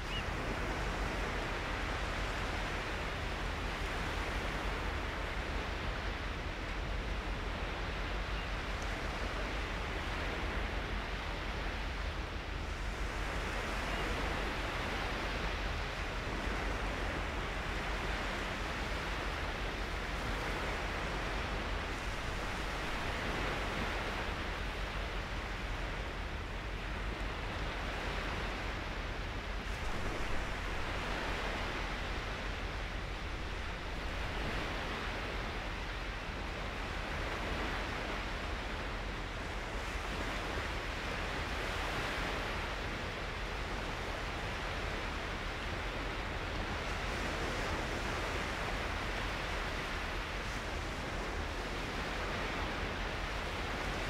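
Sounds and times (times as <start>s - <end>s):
constant low rumble: 0.0s - 54.0s.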